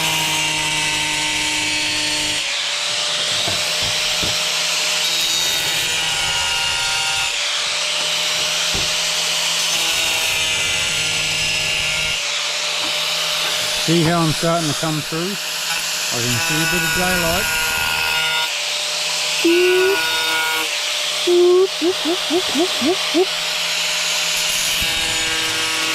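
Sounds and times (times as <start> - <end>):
angle grinder grinding tile: 0.0 - 18.3, 18.9 - 25.9.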